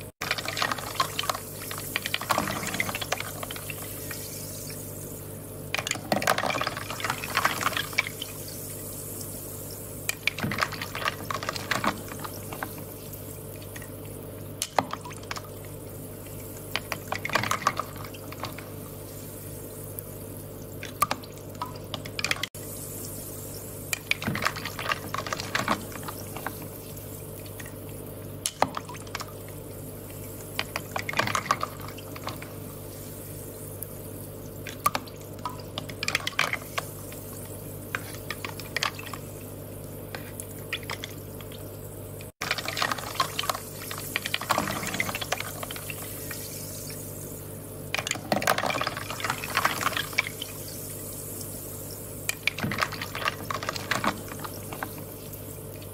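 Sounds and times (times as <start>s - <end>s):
steady low hum: 0.0s - 55.9s
water trickling and dripping: 0.2s - 55.9s.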